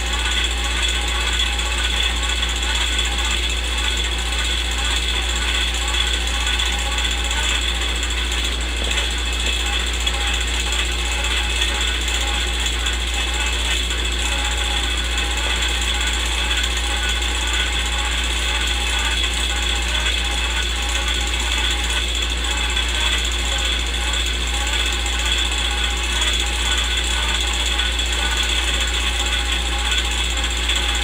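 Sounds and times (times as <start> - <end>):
movie projector running: 0.0 - 31.0.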